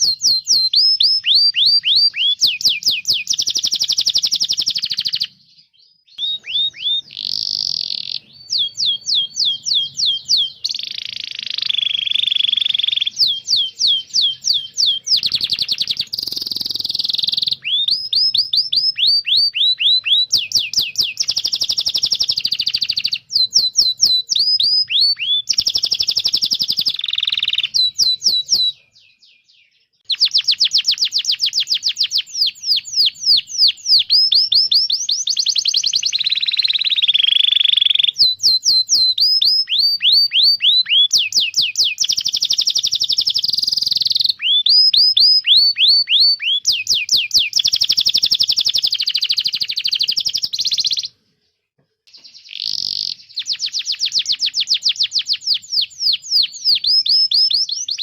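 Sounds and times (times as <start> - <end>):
canary singing trills: 0.0 - 51.2, 52.1 - 58.0.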